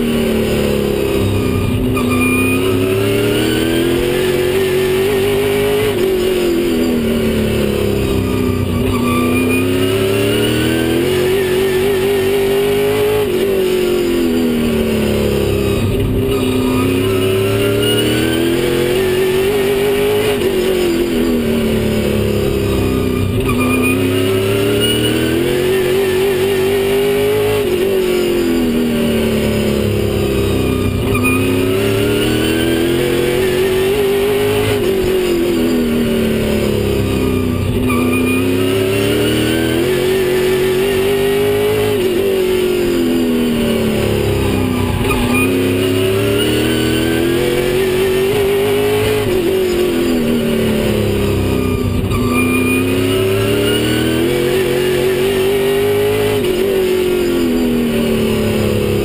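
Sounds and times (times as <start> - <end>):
racing engine revving: 0.0 - 59.0.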